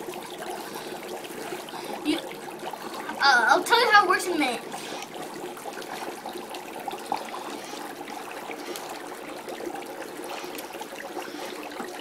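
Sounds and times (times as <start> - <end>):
dry ice bubbling in water: 0.0 - 12.0.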